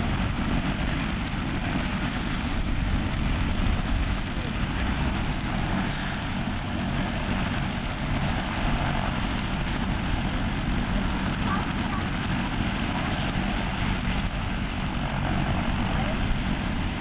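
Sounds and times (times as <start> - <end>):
rushing rotor noise: 0.0 - 17.0
turbine whine: 0.0 - 17.0.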